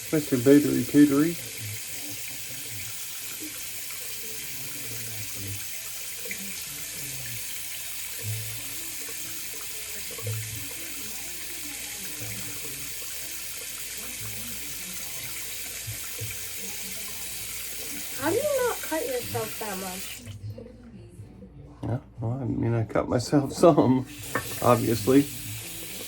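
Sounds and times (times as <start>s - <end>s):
tap water pouring into basin: 0.0s - 20.4s, 24.0s - 26.0s.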